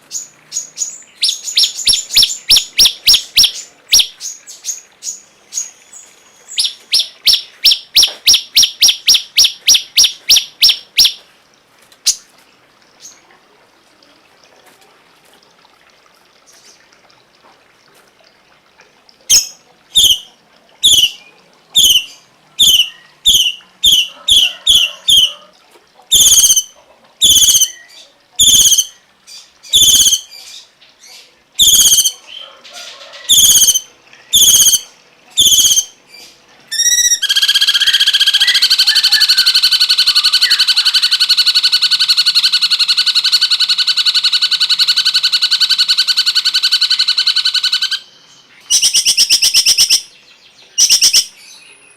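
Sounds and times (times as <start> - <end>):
songbird chirping: 0.0 - 11.3, 19.2 - 25.5, 26.1 - 51.9.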